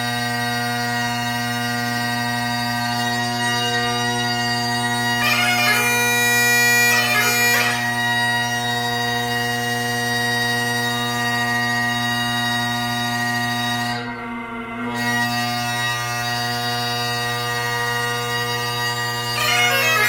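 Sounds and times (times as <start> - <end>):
bagpipe playing: 0.0 - 20.0.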